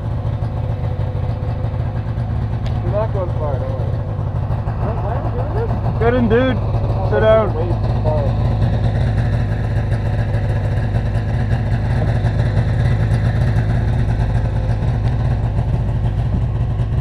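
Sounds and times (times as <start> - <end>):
snowmobile engine idling: 0.0 - 17.0.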